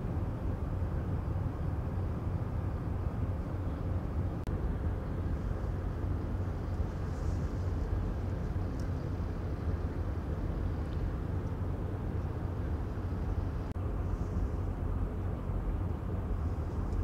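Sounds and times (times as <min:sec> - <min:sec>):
diesel engine rumble: 0:00.0 - 0:17.0.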